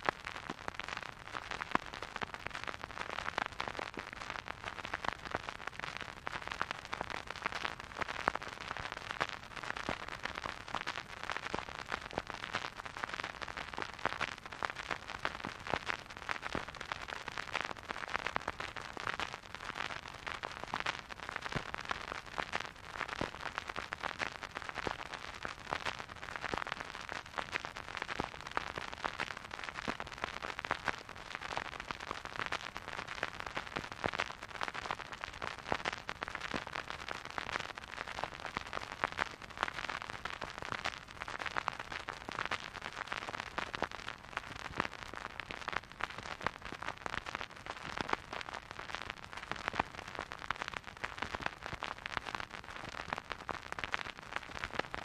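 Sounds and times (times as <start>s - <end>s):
vinyl record crackle and hiss: 0.0s - 55.0s.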